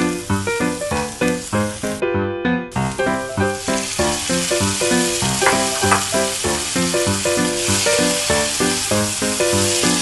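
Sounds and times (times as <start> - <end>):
vegetables sizzling in a pan: 0.0 - 2.0, 2.7 - 10.0.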